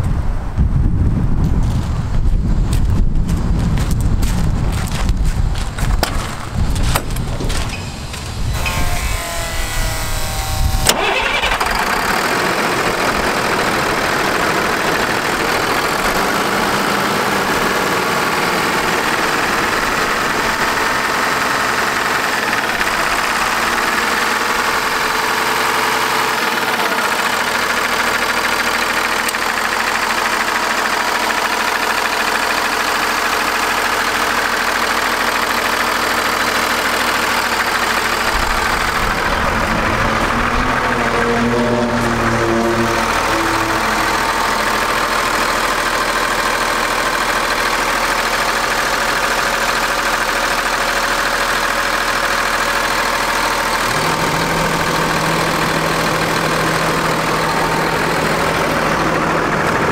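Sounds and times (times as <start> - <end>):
diesel engine idling: 3.2 - 59.9.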